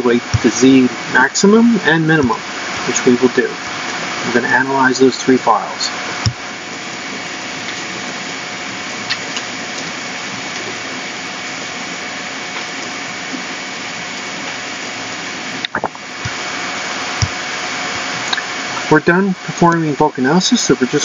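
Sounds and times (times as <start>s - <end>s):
faint whine: 0.0s - 21.0s
steady background hiss: 0.0s - 21.0s.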